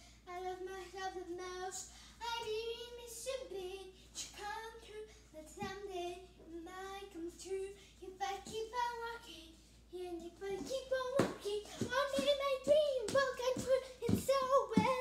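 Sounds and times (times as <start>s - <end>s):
girl singing: 0.0s - 15.0s.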